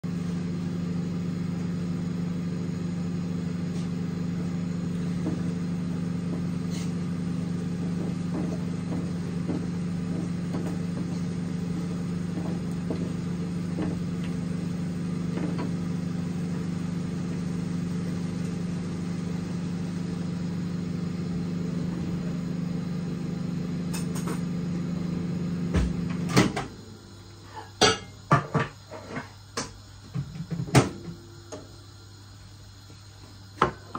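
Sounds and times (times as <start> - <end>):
mechanical hum: 0.0 - 33.9.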